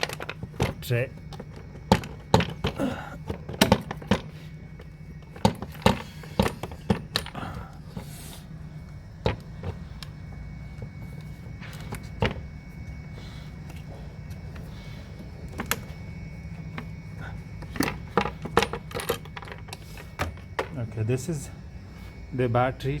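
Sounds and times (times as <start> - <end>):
hand tools clinking and knocking: 0.0 - 8.5, 9.2 - 21.6
steady low hum: 0.0 - 23.0.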